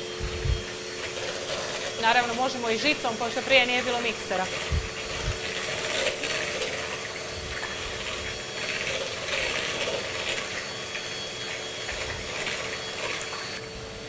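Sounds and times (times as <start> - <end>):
electric hand mixer running: 0.0 - 14.0.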